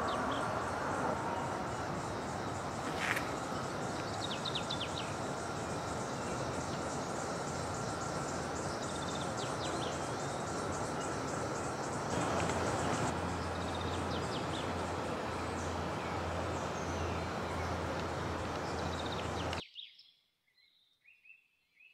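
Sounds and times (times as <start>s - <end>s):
birds chirping: 0.0s - 19.6s
insects buzzing: 0.0s - 19.6s
steady rushing background: 0.0s - 19.6s.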